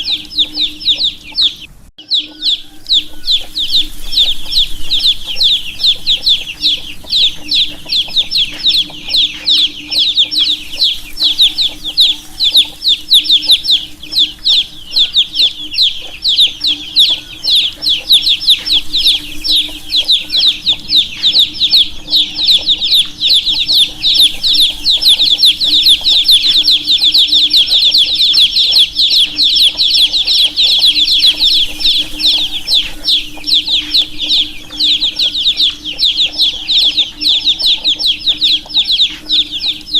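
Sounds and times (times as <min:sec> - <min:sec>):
baby chicks chirping: 0:00.0 - 0:39.9
faint low hum: 0:00.0 - 0:39.9.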